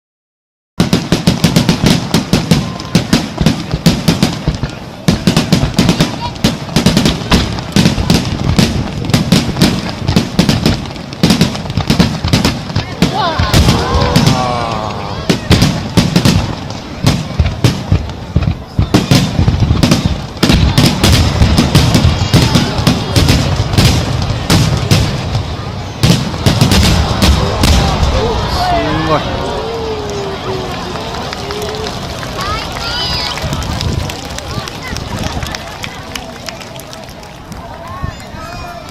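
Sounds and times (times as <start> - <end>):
fireworks bangs: 0.8 - 38.9.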